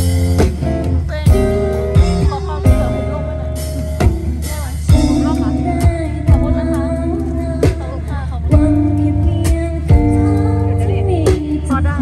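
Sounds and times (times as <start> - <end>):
acoustic guitars strumming chords: 0.0 - 12.0.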